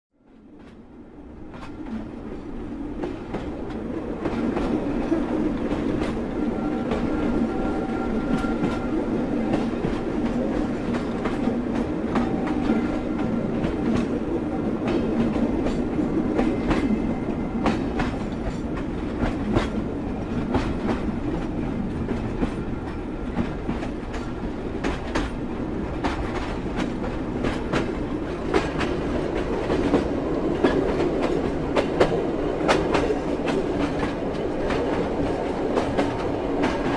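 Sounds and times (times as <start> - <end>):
train rumble: 0.2 - 36.9
train wheels clacking over rail joints: 2.9 - 36.9.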